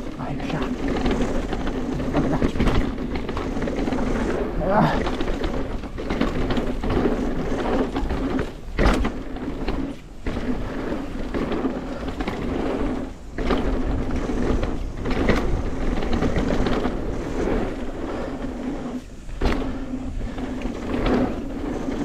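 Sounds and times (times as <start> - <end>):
bicycle clicks: 0.0 - 22.0
bicycle rolling rumble: 0.0 - 22.0.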